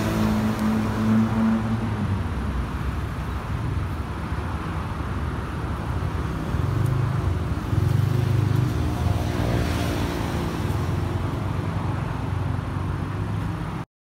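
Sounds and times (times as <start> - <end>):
street rumble: 0.0 - 13.9.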